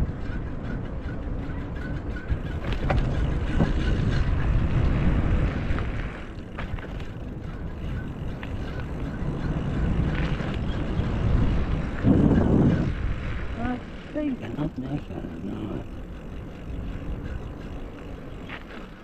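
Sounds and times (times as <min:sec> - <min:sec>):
bicycle tyre rumble: 0:00.0 - 0:19.0
wind buffeting microphone: 0:00.0 - 0:19.0.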